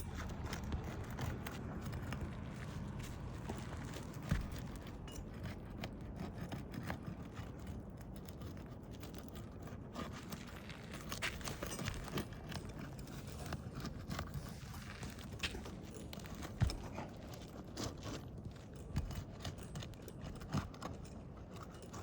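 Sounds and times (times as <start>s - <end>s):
scrapes and taps on shingle roof: 0.0s - 22.0s.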